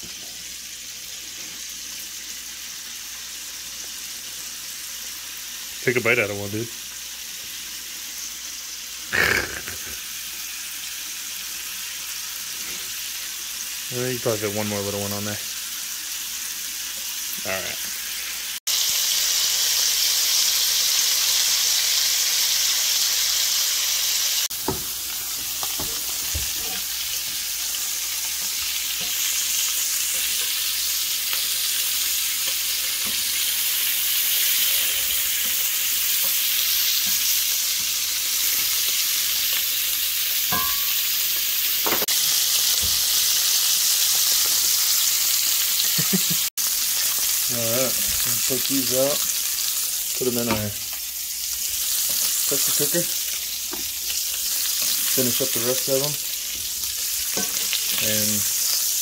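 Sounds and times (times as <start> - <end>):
meat sizzling in a skillet: 0.0 - 59.0.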